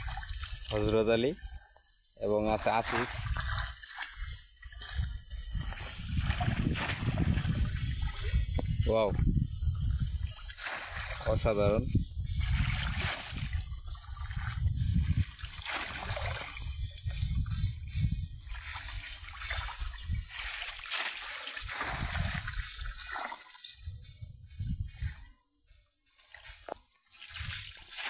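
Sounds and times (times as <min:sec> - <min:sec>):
muddy water splashing: 0:00.0 - 0:01.6, 0:02.3 - 0:11.7, 0:12.3 - 0:24.0, 0:26.3 - 0:28.0.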